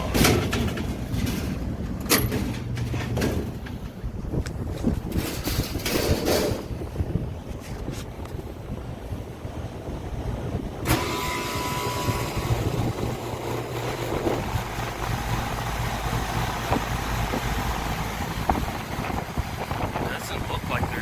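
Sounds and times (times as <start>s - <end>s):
condenser fan whooshing: 0.0s - 21.0s.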